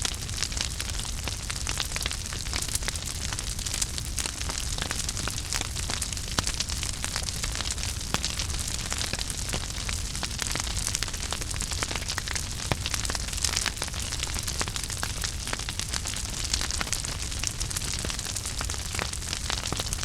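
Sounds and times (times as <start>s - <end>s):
fire crackles and pops: 0.0s - 20.0s
wood fire burning: 0.0s - 20.0s.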